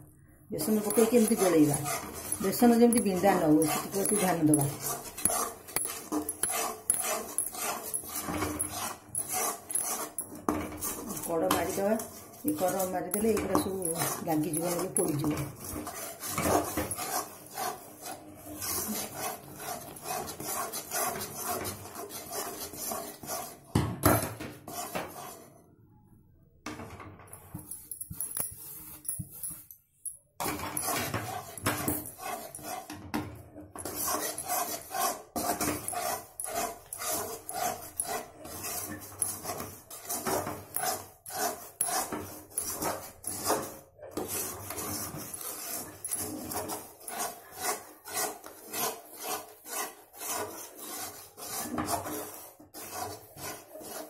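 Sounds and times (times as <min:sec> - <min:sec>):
wooden spoon scraping a pan: 0:00.6 - 0:25.7, 0:26.8 - 0:29.7, 0:30.4 - 0:54.0.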